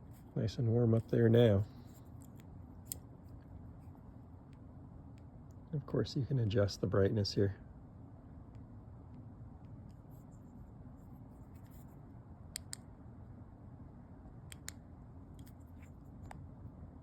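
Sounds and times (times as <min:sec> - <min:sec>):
low steady background hum: 0:00.0 - 0:17.0.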